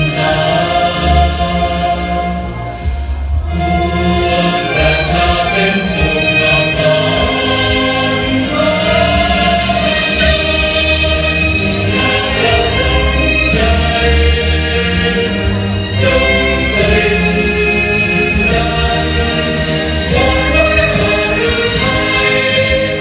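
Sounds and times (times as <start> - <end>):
choir singing held notes: 0.0 - 23.0
deep sustained bass: 0.0 - 23.0.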